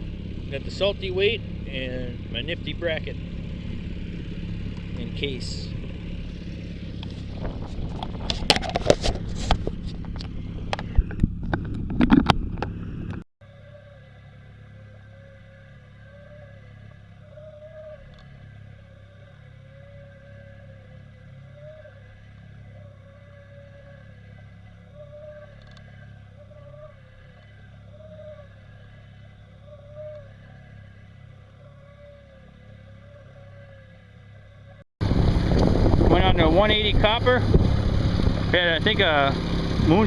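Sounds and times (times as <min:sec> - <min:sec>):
boat motor hum underwater: 0:05.7 - 0:40.0.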